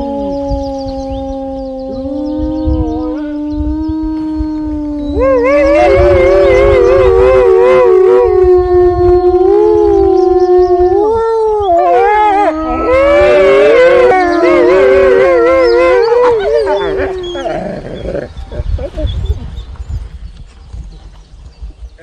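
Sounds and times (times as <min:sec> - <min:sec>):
wolves howling in chorus: 0:00.0 - 0:18.9.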